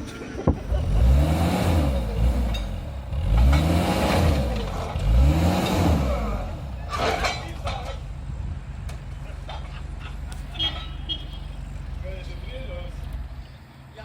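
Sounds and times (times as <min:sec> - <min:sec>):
vehicle engine revving: 0:00.5 - 0:13.6.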